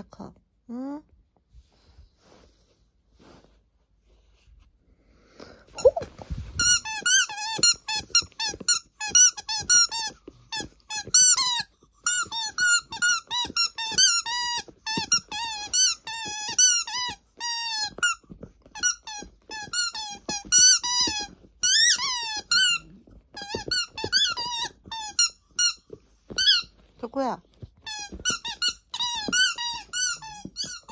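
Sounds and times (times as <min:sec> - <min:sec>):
squeaky toy ball squeaking: 0:05.7 - 0:30.9.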